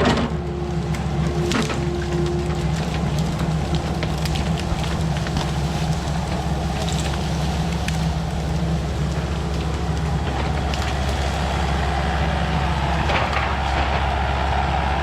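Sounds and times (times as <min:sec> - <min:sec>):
branches crackling and snapping: 0:00.0 - 0:15.0
diesel engine running under load: 0:00.0 - 0:15.0.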